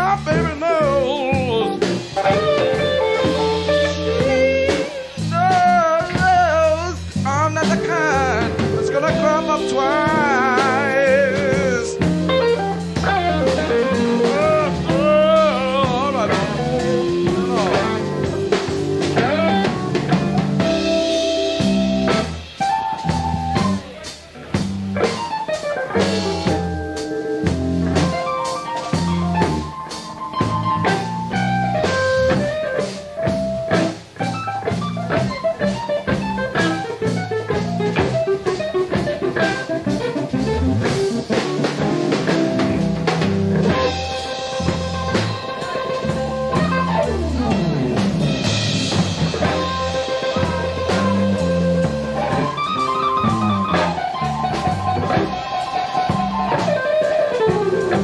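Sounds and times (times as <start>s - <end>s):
bass guitar: 0.0s - 58.0s
blues guitar lead: 0.0s - 58.0s
drums: 0.0s - 58.0s.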